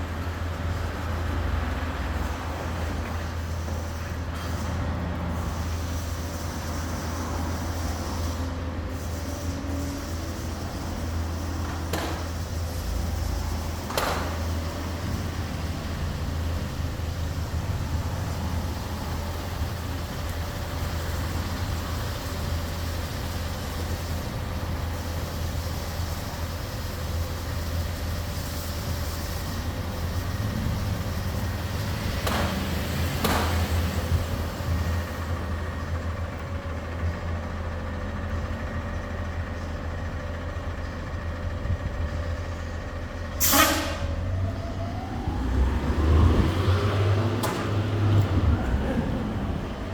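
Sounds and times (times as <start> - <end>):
garbage truck engine running: 0.0 - 49.9
air-brake hiss: 2.0 - 39.6, 42.1 - 49.9.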